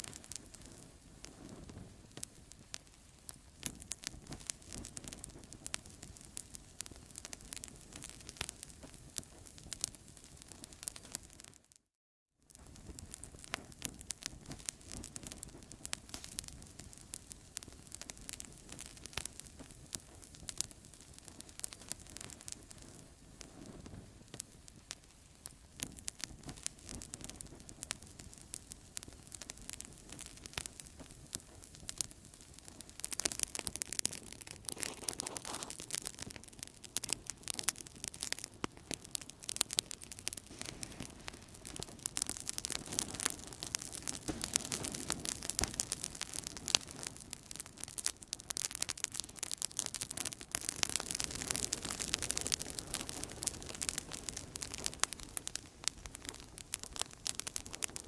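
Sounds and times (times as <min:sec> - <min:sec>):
campfire crackling: 0:00.0 - 0:11.6, 0:12.5 - 0:58.0.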